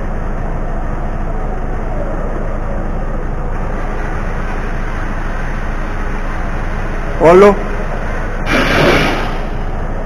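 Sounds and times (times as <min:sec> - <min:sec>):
truck running noise: 0:00.0 - 0:10.0.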